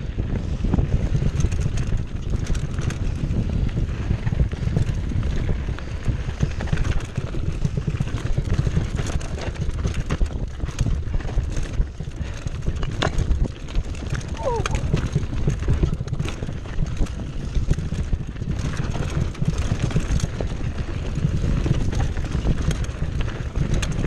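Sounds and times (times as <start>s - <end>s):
bike chain and frame rattling: 0.0s - 24.0s.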